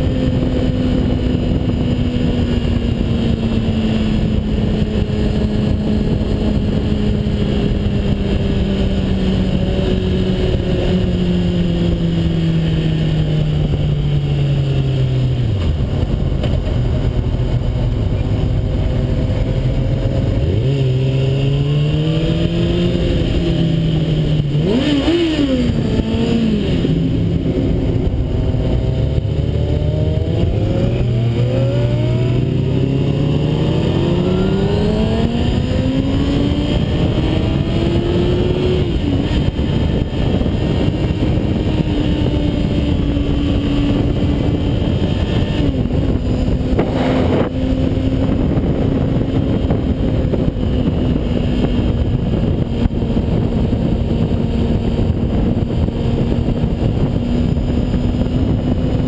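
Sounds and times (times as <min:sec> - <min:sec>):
motorcycle engine accelerating: 0:00.0 - 0:59.0
wind noise: 0:00.0 - 0:59.0.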